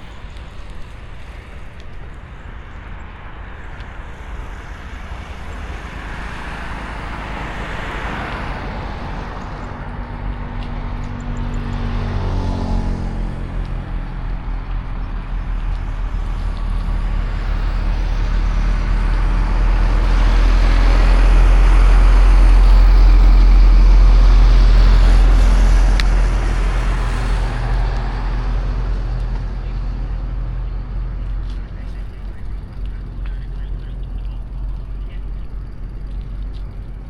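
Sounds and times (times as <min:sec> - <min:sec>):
low traffic rumble: 0:00.0 - 0:37.0
vehicle passing: 0:00.0 - 0:37.0.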